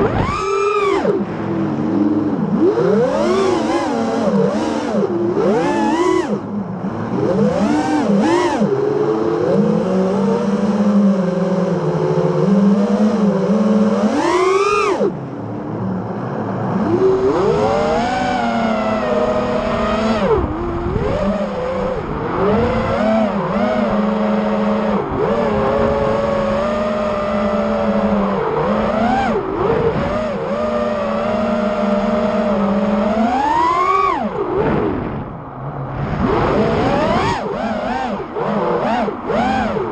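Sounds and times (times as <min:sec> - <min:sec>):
quadcopter motors whining: 0:00.0 - 0:15.2, 0:16.7 - 0:35.3, 0:36.0 - 0:39.9.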